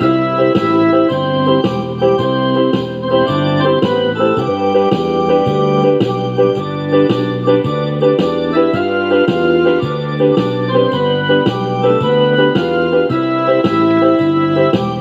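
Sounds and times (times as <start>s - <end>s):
electronic keyboard organ music: 0.0s - 15.0s.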